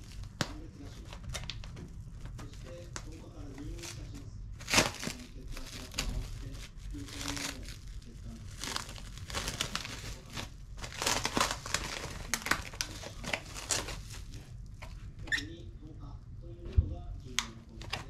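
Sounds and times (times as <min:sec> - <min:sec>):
food packaging crinkling: 0:00.0 - 0:15.5, 0:17.2 - 0:18.0.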